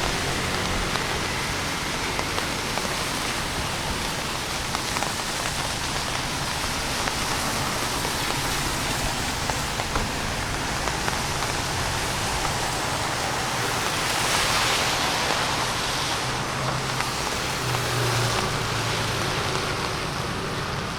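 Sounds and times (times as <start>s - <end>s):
rain hiss on street: 0.0s - 20.9s
raindrops ticking: 0.0s - 20.9s.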